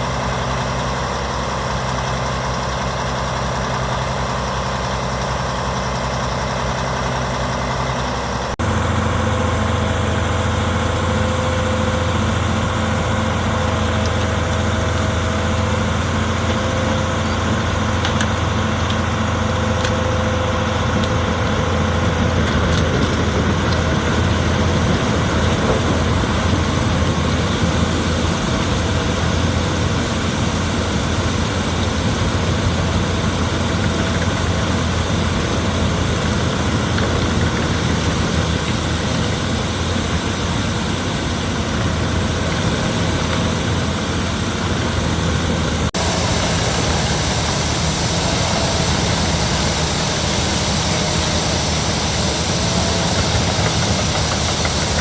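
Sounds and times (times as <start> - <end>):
wood chipper running: 0.0 - 55.0.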